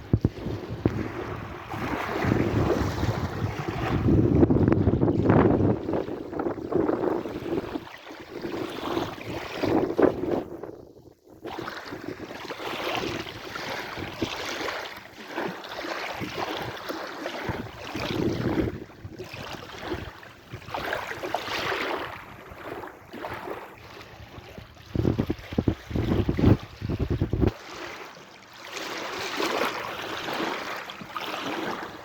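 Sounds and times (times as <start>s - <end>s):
sea waves breaking: 0.0s - 10.6s, 11.3s - 32.0s.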